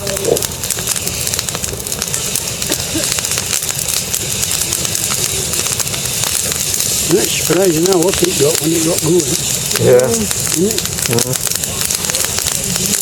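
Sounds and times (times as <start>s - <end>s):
bonfire rushing: 0.0s - 13.0s
fire crackling and popping: 0.0s - 13.0s.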